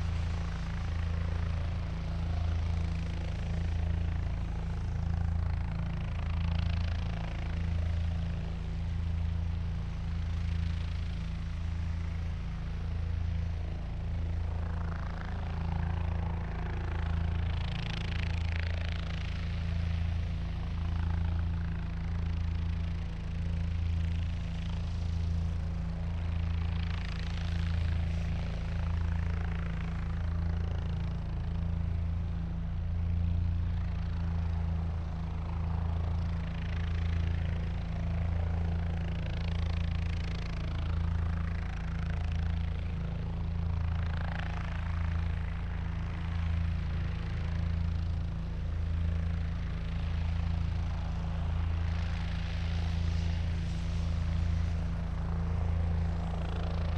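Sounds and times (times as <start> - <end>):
helicopter engine and rotor: 0.0 - 56.9.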